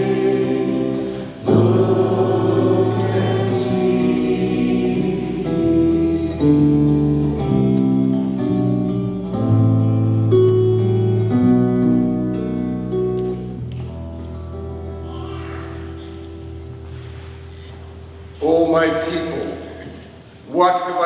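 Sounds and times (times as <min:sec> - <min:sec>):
slow acoustic guitar music: 0:00.0 - 0:18.4.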